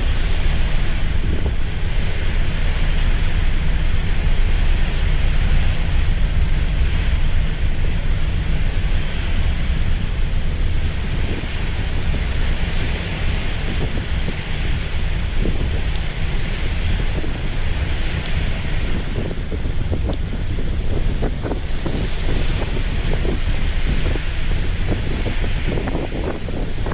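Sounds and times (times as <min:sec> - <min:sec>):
sea water rushing: 0:00.0 - 0:26.9
wind buffeting microphone: 0:00.0 - 0:26.9.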